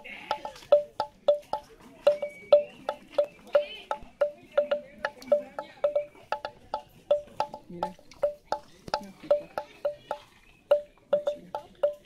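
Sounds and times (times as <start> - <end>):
wood block percussion rhythm: 0.0 - 12.0.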